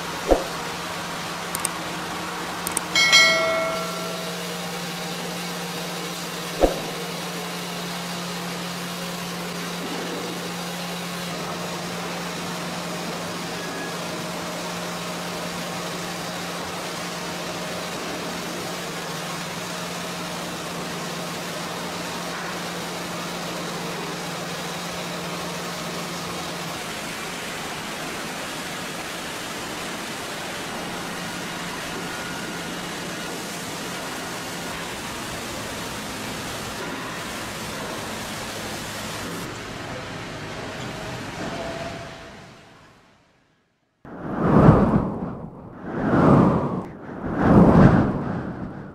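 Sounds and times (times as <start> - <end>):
conveyor machinery hum: 0.0 - 43.3.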